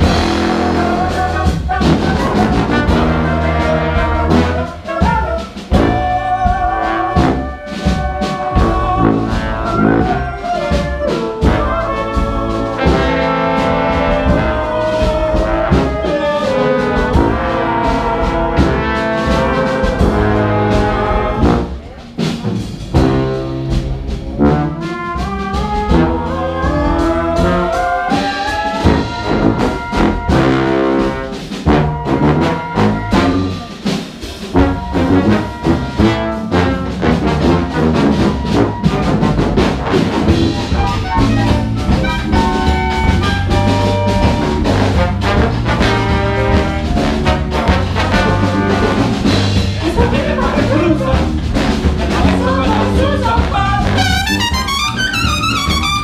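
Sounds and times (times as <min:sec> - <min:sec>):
large jazz ensemble playing: 0:00.0 - 0:56.0.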